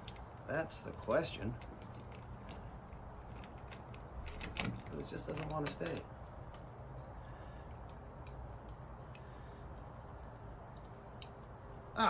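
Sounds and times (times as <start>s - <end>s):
cricket chorus: 0.0s - 12.0s.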